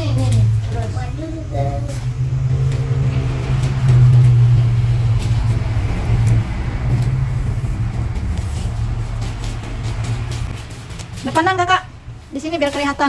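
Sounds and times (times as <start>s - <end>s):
low engine hum: 0.0s - 12.6s.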